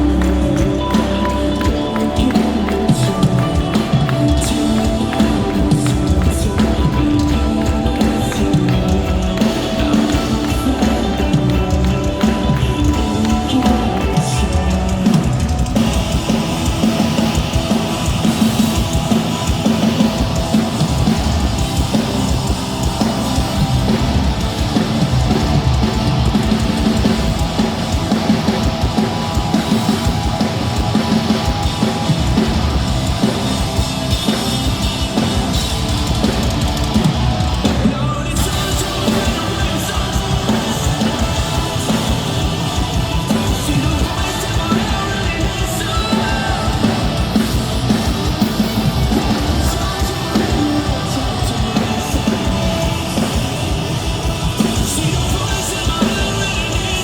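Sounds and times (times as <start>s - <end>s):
drum kit: 0.0s - 57.0s
rock band playing live: 0.0s - 57.0s.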